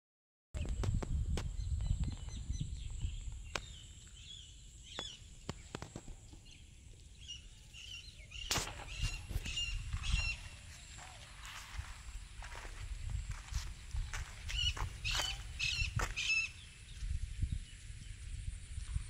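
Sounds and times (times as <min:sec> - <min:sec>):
birds chirping: 0:01.4 - 0:18.2.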